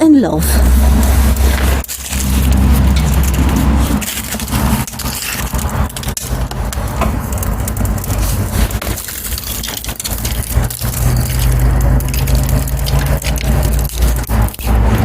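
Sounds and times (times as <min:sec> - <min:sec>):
low rumble: 0:00.0 - 0:15.0
twigs crackling in stove fire: 0:00.5 - 0:15.0.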